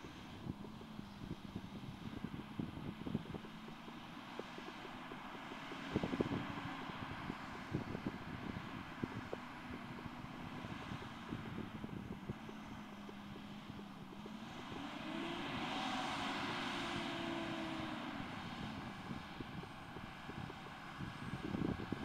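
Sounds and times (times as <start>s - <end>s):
wind buffeting microphone: 0.0s - 22.0s
tractor engine: 3.5s - 22.0s.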